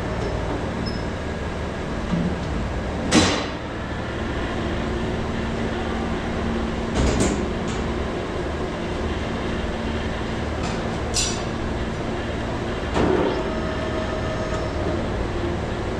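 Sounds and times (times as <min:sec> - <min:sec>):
machinery hum: 0:00.0 - 0:15.9.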